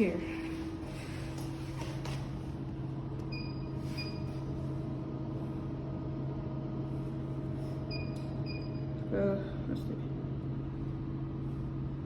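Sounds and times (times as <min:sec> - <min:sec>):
electrical hum of machinery: 0:00.0 - 0:12.0.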